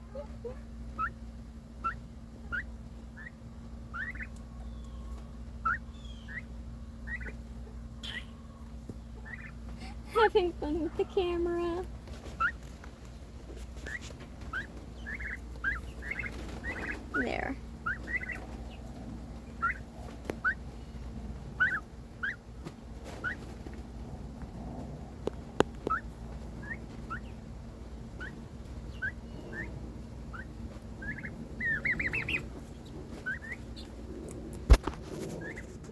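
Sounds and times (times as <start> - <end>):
turkeys peeping: 0.0 - 10.0, 11.9 - 35.9.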